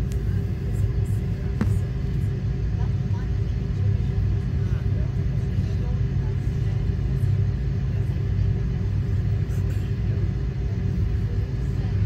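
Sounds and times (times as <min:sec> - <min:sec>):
airplane cabin rumble and hum: 0:00.0 - 0:12.0.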